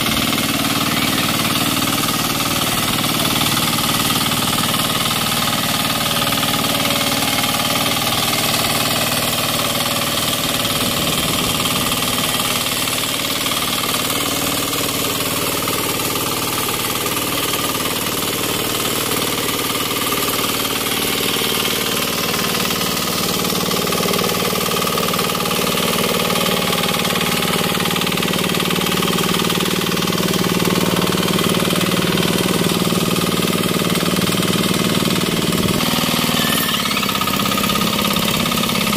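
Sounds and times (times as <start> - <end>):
tiller engine under load: 0.0 - 38.9.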